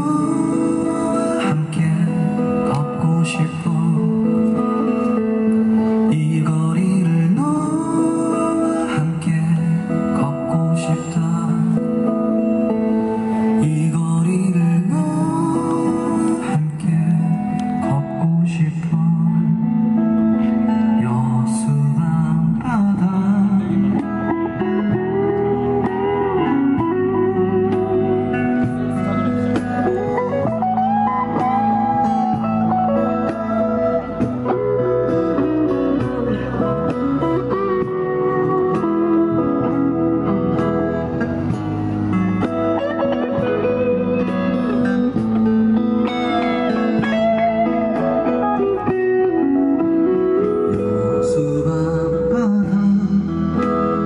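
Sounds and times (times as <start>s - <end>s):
acoustic guitar: 0.0s - 54.0s
electric guitar bending notes: 0.0s - 54.0s.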